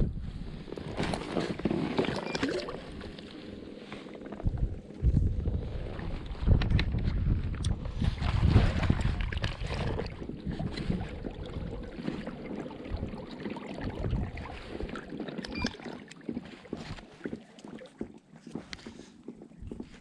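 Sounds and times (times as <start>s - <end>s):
wind rumbling on microphone: 0.0s - 15.7s, 19.6s - 20.0s
water lapping and splashing: 0.5s - 19.2s.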